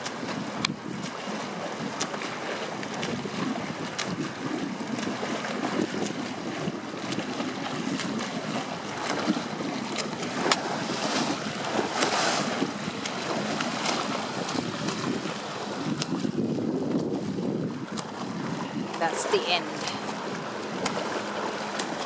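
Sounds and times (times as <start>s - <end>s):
sharp water splashes: 0.0s - 22.0s
water washing against boat: 0.0s - 22.0s
wind on microphone: 0.0s - 22.0s.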